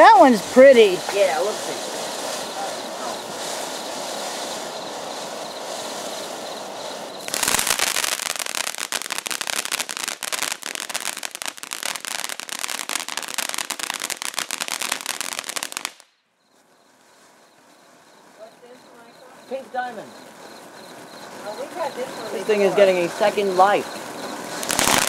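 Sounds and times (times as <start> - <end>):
firework hissing and crackling: 0.0 - 25.0.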